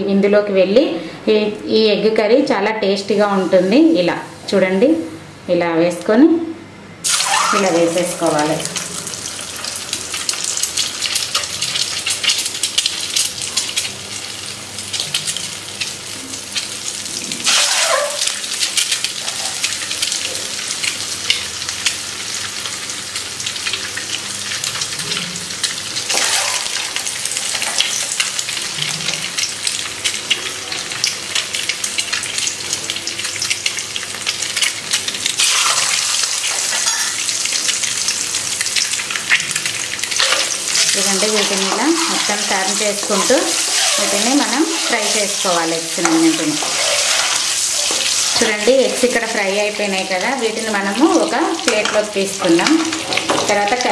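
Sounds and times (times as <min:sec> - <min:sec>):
hot oil sizzling: 0:07.0 - 0:53.9.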